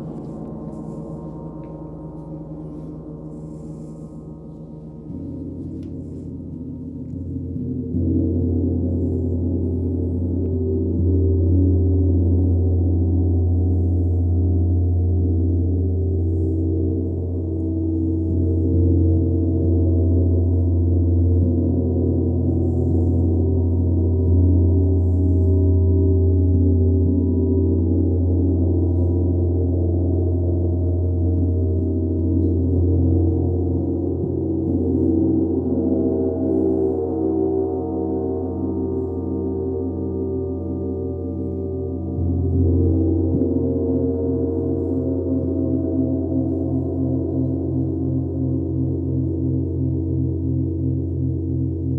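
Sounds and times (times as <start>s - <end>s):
gong played with soft mallet: 0.0s - 51.9s
steady low hum: 0.0s - 51.9s.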